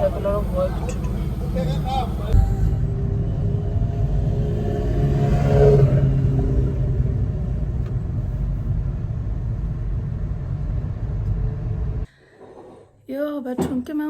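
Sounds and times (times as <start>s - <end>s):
car engine: 0.0s - 12.1s
road rumble: 0.0s - 13.9s.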